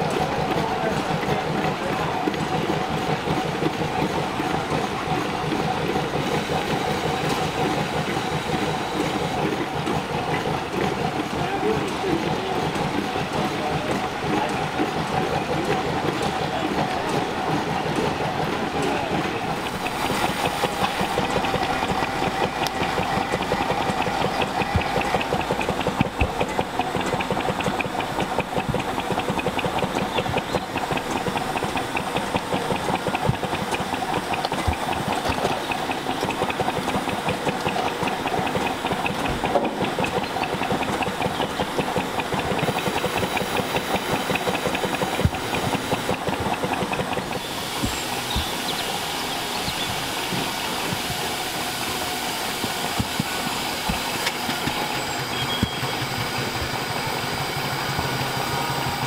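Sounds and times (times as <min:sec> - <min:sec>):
steam engine exhaust beats: 0:00.0 - 0:59.0
steam hissing: 0:00.0 - 0:59.0.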